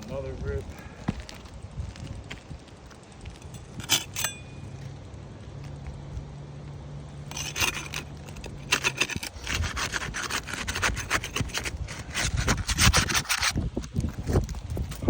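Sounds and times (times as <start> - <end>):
scraping on asphalt roof shingles: 0.0 - 15.0.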